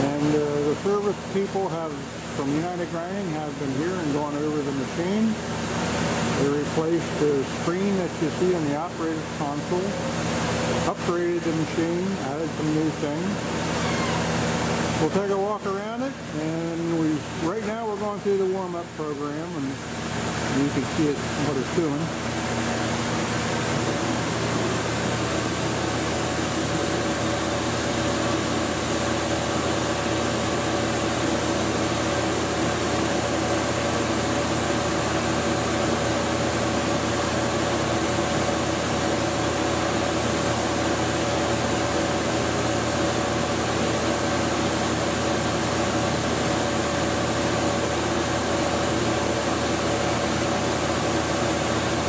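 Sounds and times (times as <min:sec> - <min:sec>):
grinding machine hiss and hum: 0:00.0 - 0:52.0.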